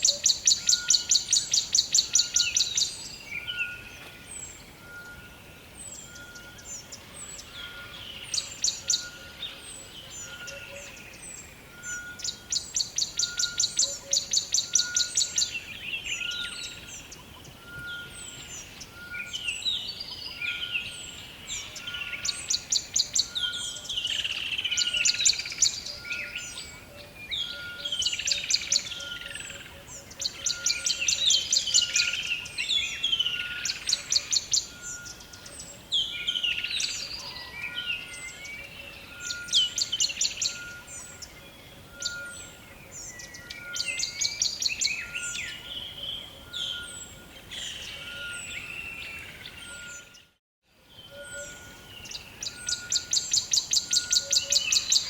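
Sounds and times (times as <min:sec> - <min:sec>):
birds trilling and whistling: 0:00.0 - 0:55.0.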